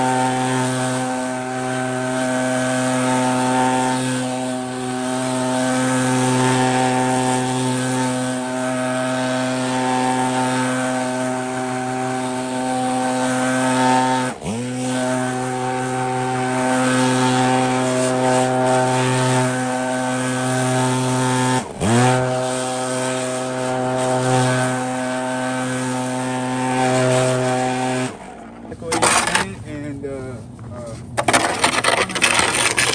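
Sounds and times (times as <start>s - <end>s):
backpack leaf blower running: 0.0s - 29.5s, 31.2s - 32.9s.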